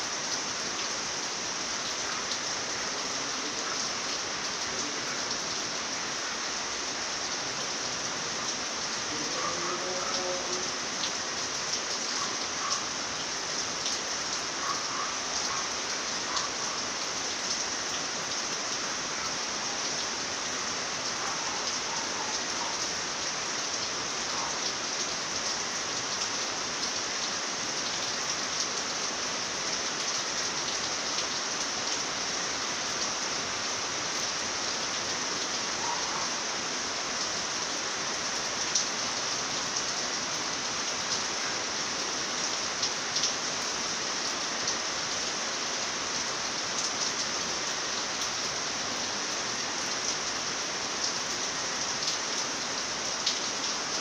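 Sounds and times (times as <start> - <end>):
rain hissing: 0.0 - 54.0.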